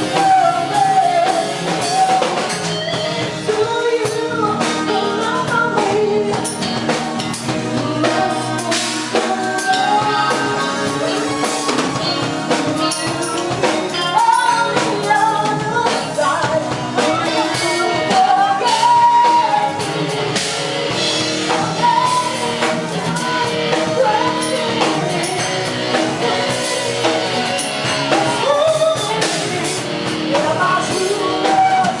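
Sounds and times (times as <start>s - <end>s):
drum kit: 0.0s - 32.0s
guitar: 0.0s - 32.0s
person singing: 0.0s - 32.0s.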